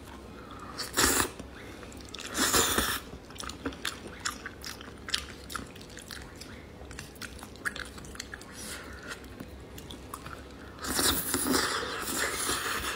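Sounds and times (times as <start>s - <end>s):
wet chewing clicks: 2.0s - 12.8s.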